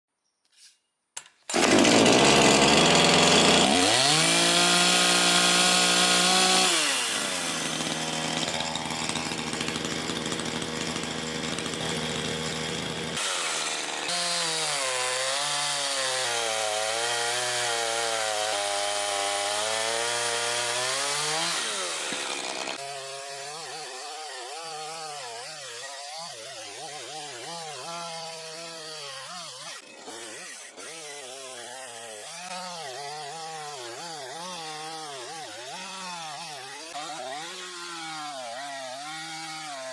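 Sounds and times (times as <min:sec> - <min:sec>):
chainsaw running: 0:01.4 - 0:39.9.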